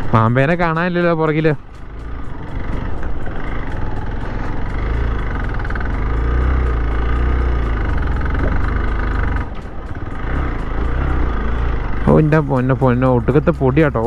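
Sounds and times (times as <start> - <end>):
motorcycle engine running: 0.0 - 14.0
road and wind rumble: 0.0 - 14.0.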